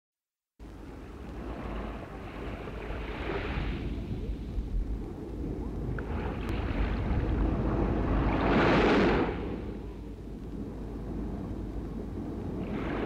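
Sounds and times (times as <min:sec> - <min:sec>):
low hum: 0:00.6 - 0:13.0
sea waves washing in: 0:00.6 - 0:13.0.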